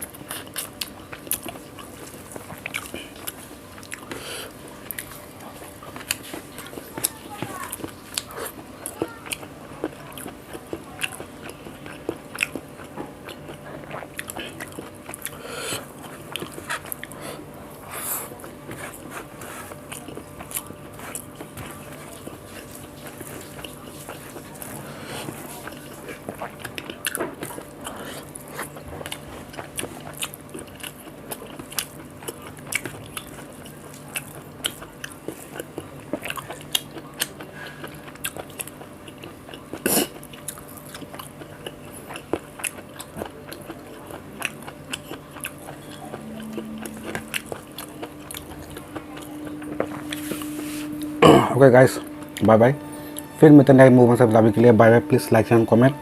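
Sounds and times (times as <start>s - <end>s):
person chewing food: 0.0s - 53.3s.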